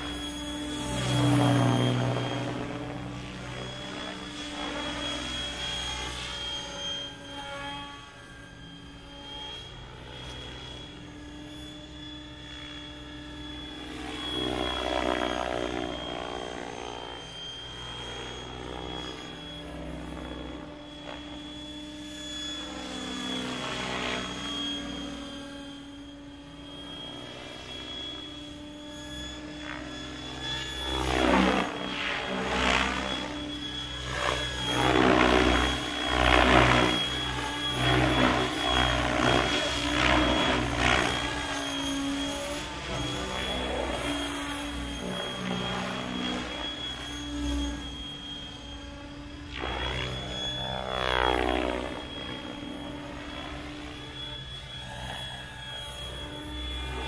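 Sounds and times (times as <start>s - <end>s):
helicopter rotor noise: 0.0s - 57.0s
rc helicopter motor whine: 0.0s - 57.0s.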